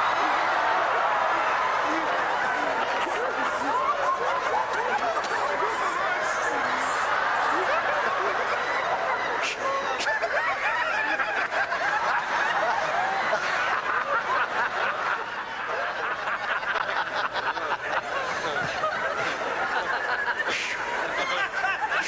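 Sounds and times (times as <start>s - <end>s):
crowd laughing: 0.0s - 22.0s.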